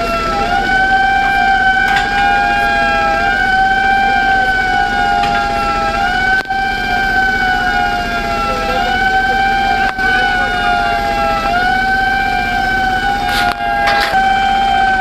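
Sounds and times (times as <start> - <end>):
two-tone siren gliding: 0.0 - 15.0.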